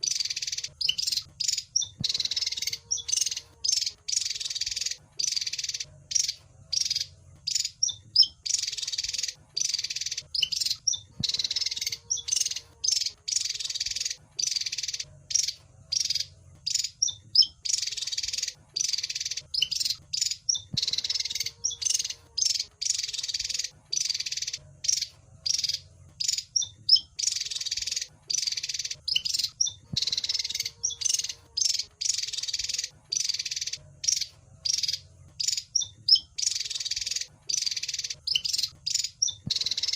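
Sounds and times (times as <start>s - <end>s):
bird harsh buzzy chattering calls: 0.0s - 39.9s
faint low hum: 0.0s - 39.9s.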